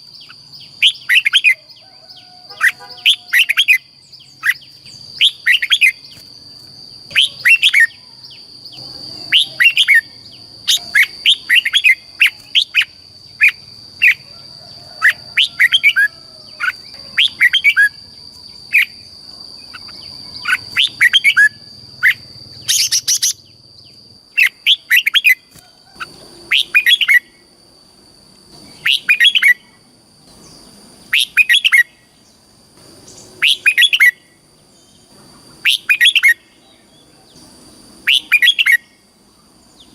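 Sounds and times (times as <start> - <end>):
bird singing warbling phrases: 0.0 - 14.3, 15.0 - 27.4, 28.5 - 32.4, 33.0 - 39.0.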